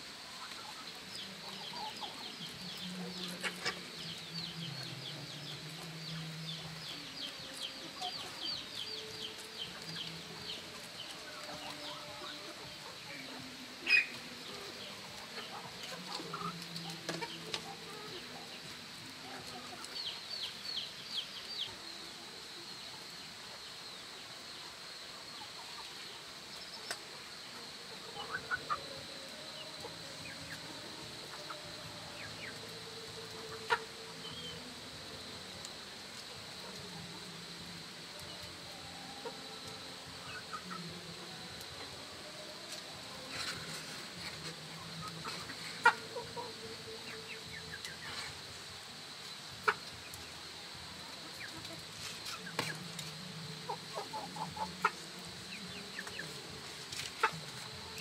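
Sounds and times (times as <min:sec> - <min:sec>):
chickens clucking: 0:00.2 - 0:58.0.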